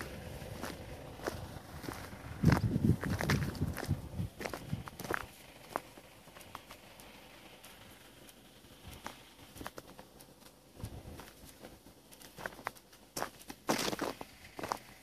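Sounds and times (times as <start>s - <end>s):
footsteps crunching on gravel: 0.0s - 15.0s.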